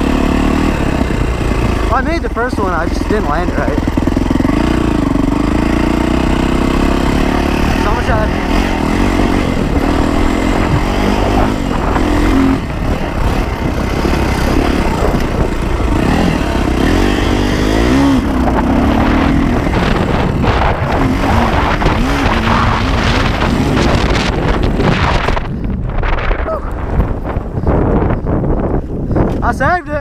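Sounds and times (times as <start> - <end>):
dirt bike engine revving: 0.0 - 28.6
steady rushing noise: 0.0 - 30.0.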